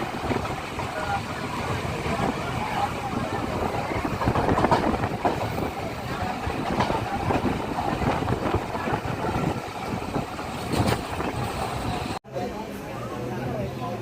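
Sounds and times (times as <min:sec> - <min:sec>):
train rumbling on rails: 0:00.0 - 0:12.2
wheels and carriages knocking: 0:00.0 - 0:12.2.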